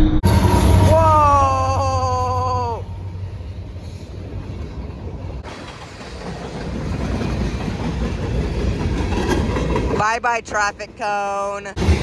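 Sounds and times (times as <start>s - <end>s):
freight train rumbling over rails: 0.2s - 12.0s.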